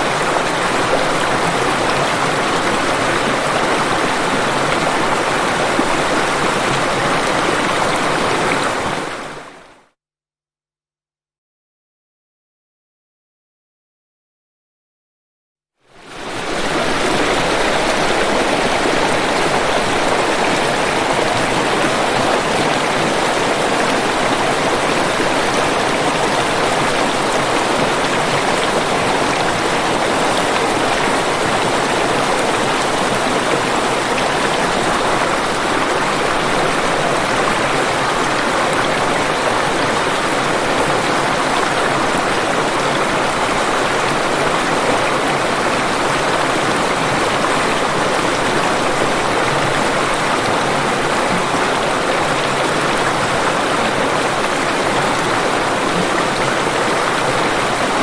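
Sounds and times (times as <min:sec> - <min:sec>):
waterfall rushing: 0:00.0 - 0:09.6, 0:16.0 - 0:58.0.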